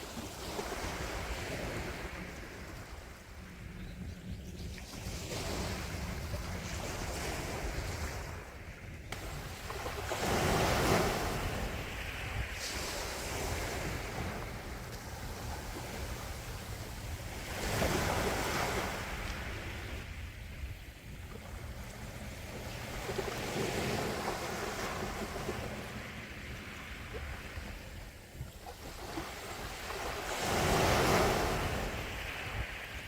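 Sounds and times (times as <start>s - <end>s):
sea waves breaking: 0.0s - 3.8s, 4.8s - 33.0s.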